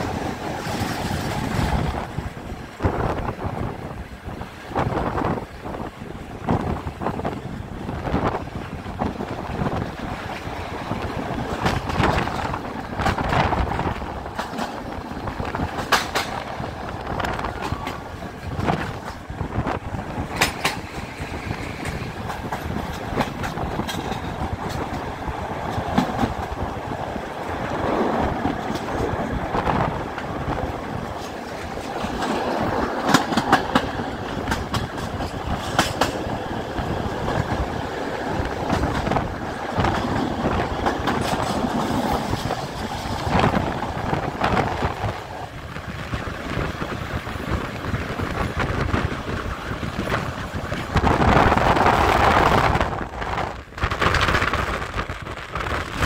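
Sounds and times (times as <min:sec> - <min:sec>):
rush of train and wind noise: 0:00.0 - 0:56.0
train wheels clattering over rail joints: 0:00.0 - 0:56.0.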